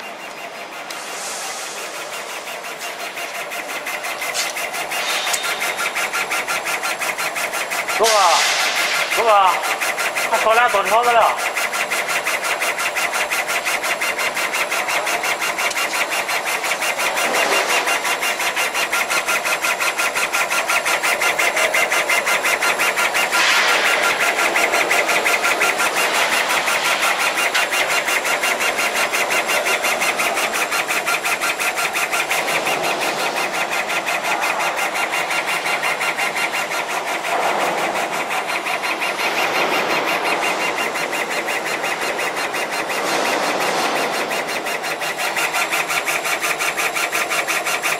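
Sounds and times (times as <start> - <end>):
laser cutter mechanical whirr: 0.0 - 47.9
rapid even pulsing: 0.0 - 47.9.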